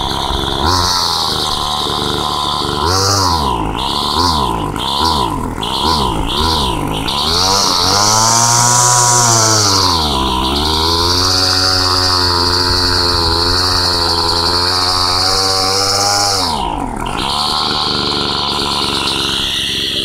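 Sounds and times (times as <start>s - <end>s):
chainsaw engine idling: 0.0s - 20.0s.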